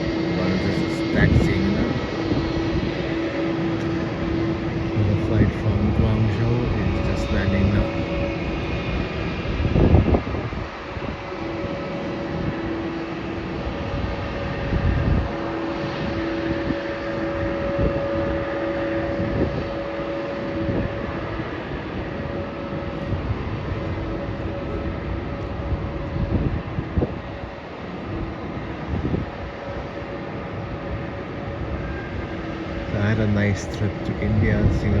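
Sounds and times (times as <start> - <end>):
jet engines rumbling and whining: 0.0 - 35.0
wind gusts on microphone: 0.0 - 35.0.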